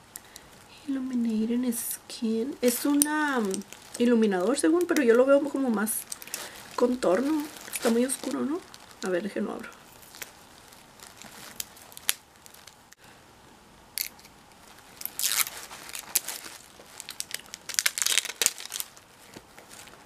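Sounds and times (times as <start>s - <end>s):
packaging wrapper crinkling and tearing: 2.6s - 13.0s, 14.0s - 20.0s.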